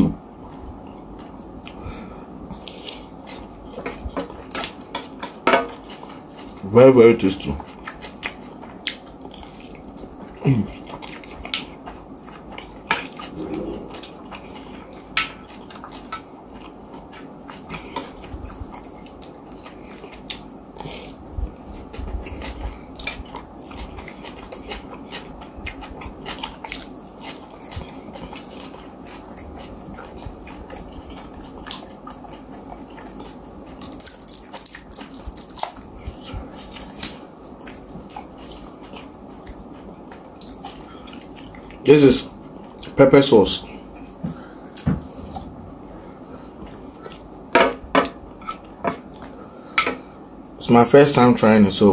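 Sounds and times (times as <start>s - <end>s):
chewing and mouth noises: 0.4s - 50.1s.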